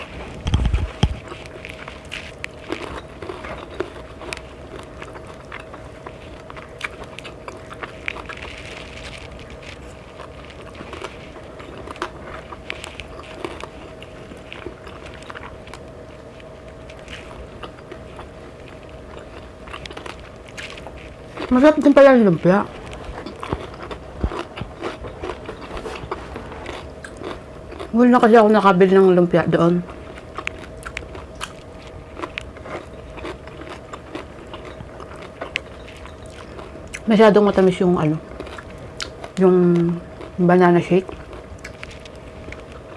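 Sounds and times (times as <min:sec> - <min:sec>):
small crunches and clicks: 0:00.0 - 0:28.0, 0:30.2 - 0:37.7, 0:41.0 - 0:42.9
person chewing food: 0:00.0 - 0:29.0, 0:29.8 - 0:42.9
faint steady hum: 0:00.0 - 0:42.9.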